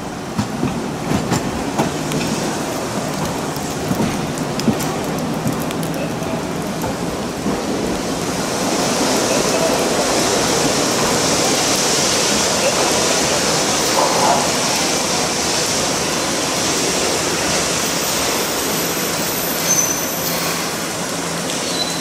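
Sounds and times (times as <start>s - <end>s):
rain hissing: 0.0s - 22.0s
tram running: 0.0s - 22.0s.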